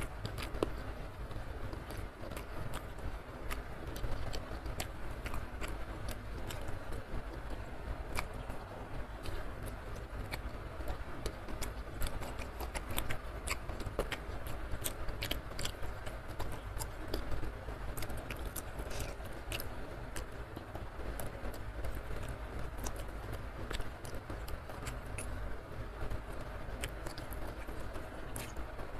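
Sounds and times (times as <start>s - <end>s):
wet chewing and lip smacks: 0.0s - 25.4s, 26.1s - 28.8s
steady low rumble: 0.0s - 28.9s.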